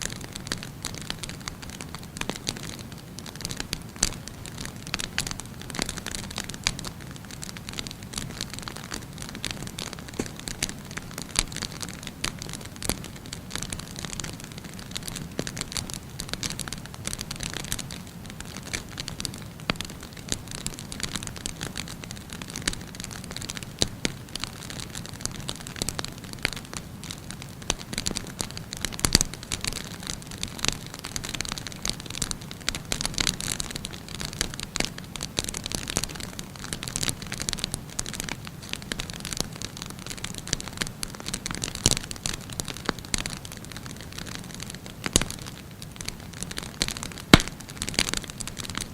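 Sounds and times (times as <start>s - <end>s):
wood fire crackling: 0.1s - 48.9s.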